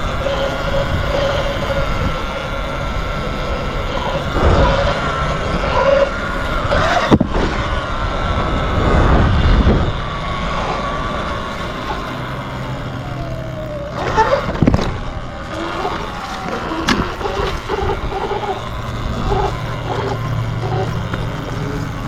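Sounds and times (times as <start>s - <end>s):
electric motorbike motor whining: 0.0s - 22.0s
rough rushing noise: 0.0s - 22.0s.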